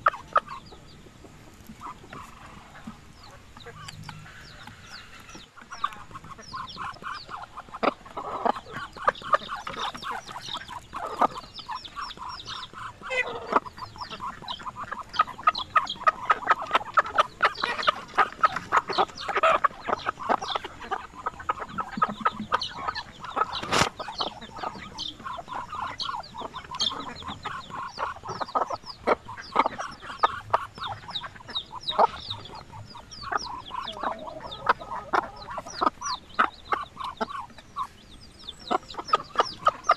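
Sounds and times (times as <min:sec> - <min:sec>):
bills pecking at grass: 0:00.0 - 0:39.9
chickens clucking: 0:00.0 - 0:39.9.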